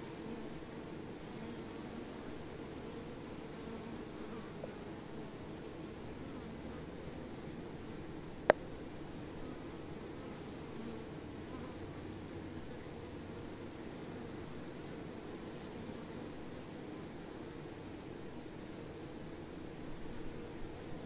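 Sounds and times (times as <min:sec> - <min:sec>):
honey bees humming: 0:00.0 - 0:18.0.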